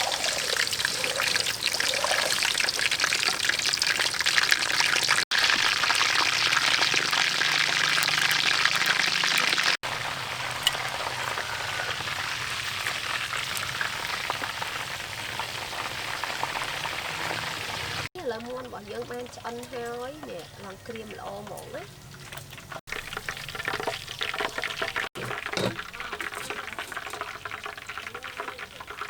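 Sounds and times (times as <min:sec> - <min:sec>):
chicken frying in hot oil: 0:00.0 - 0:29.0.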